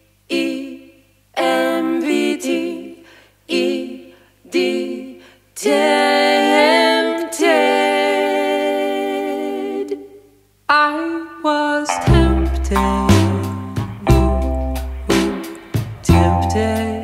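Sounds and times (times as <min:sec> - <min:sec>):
song with singing: 0:00.3 - 0:17.0.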